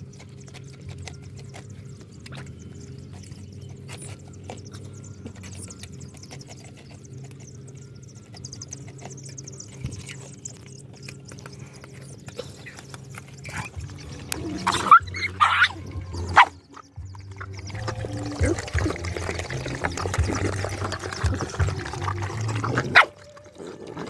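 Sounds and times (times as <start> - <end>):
chicks cheeping: 0.0 - 24.0
dogs lapping water: 0.0 - 24.0.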